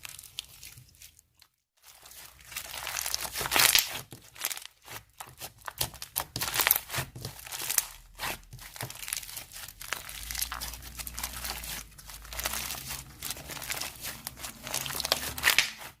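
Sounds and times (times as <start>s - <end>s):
slime squished crinkly crackles: 0.0s - 16.0s.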